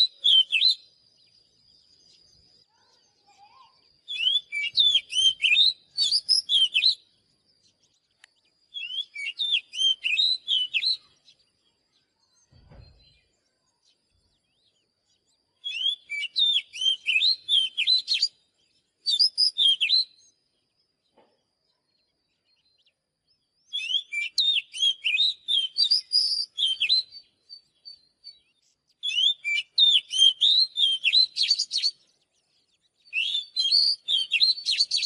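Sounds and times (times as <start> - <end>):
bird singing whistled warbles: 0.0 - 35.0.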